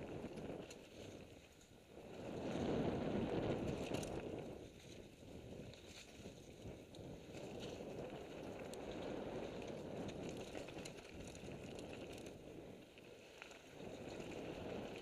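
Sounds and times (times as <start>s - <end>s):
wind rushing over microphone: 0.0s - 15.0s
bike clicks and rattles: 0.1s - 1.7s, 3.4s - 15.0s.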